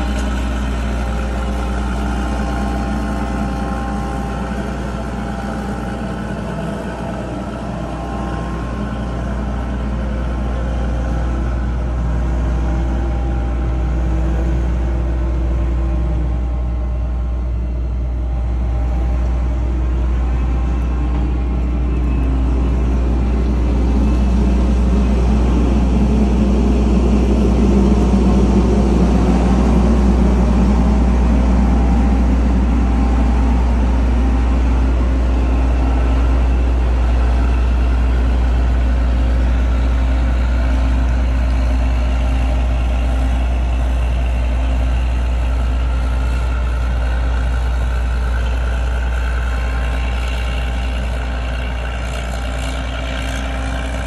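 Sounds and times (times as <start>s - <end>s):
combine diesel engine running: 0.0s - 54.0s.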